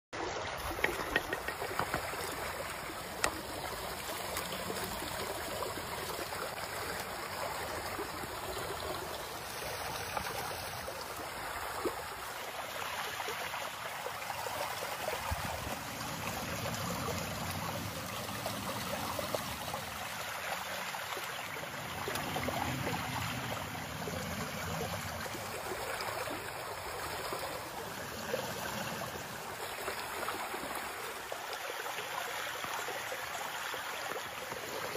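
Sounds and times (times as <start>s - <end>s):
stream rushing over rocks: 0.2s - 34.9s.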